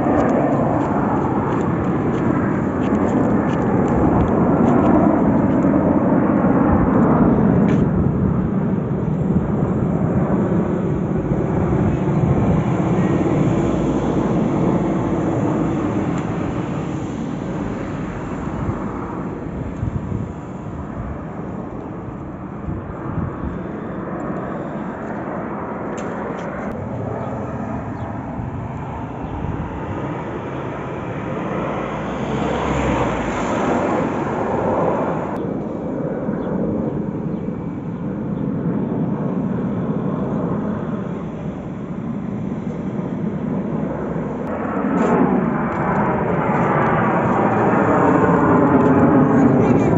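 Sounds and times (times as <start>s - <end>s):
jet aircraft flying over: 0.0s - 49.9s.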